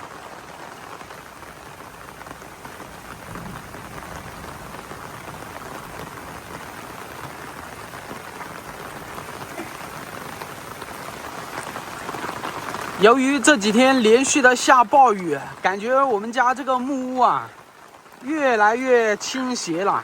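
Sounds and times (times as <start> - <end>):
heavy rain pattering: 0.0 - 20.0.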